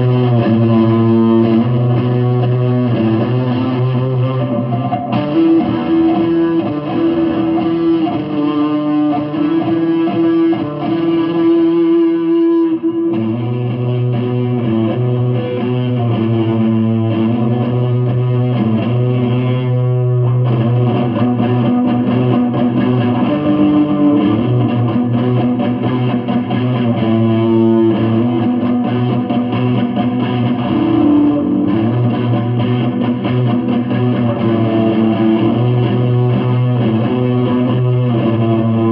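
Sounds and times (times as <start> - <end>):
electric guitar with effects: 0.0 - 38.9.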